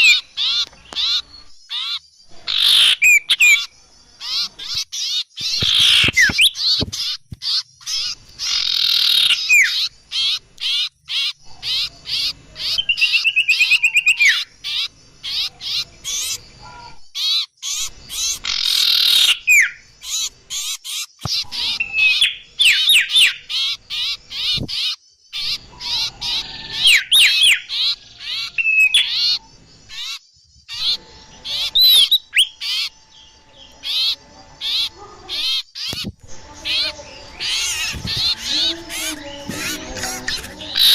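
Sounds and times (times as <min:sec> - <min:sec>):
fast rattling bird call: 0:00.0 - 0:33.0, 0:33.8 - 0:40.9
songbirds chirping and whistling: 0:00.0 - 0:40.9.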